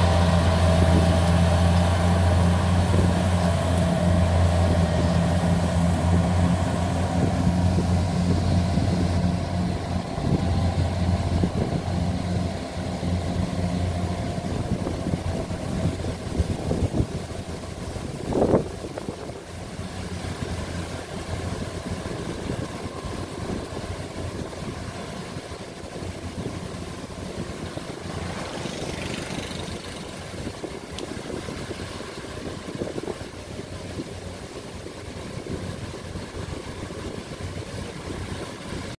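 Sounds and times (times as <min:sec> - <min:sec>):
harvester engine droning: 0:00.0 - 0:39.0.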